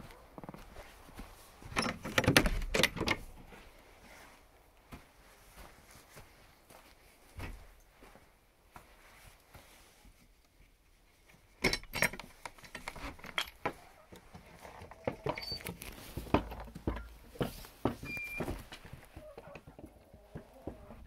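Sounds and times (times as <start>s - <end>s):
rustling and scuffing steps: 0.0s - 2.6s, 3.2s - 11.6s, 12.2s - 21.0s.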